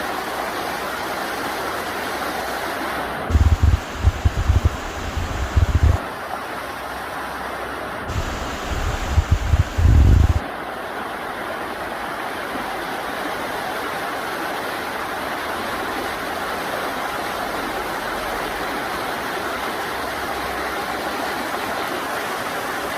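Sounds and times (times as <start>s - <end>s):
river water rushing over rocks: 0.0s - 22.9s.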